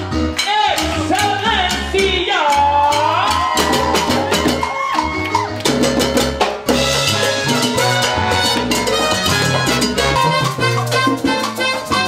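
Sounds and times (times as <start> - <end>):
bass line: 0.0 - 12.0
congas and timbales beat: 0.0 - 12.0.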